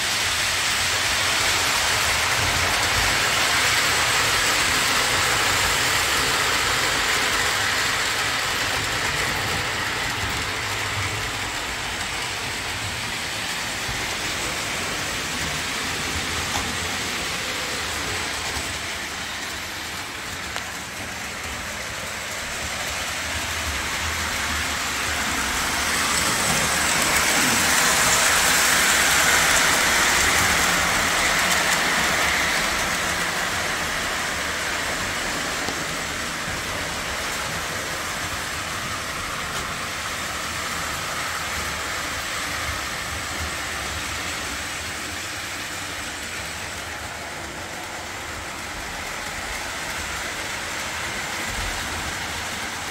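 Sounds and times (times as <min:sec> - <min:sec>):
toy train wheels rolling on rail: 0:00.0 - 0:52.9.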